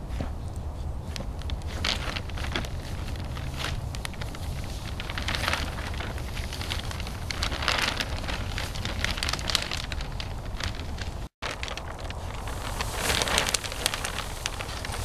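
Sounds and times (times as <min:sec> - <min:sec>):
plastic tarp crinkling and rustling: 0:01.1 - 0:15.0.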